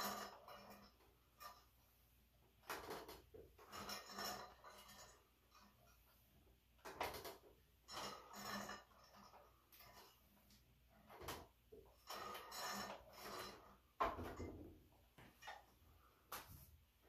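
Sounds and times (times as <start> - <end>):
weight plates and chain clinking: 0.0 - 1.9, 2.6 - 6.2, 6.9 - 16.1.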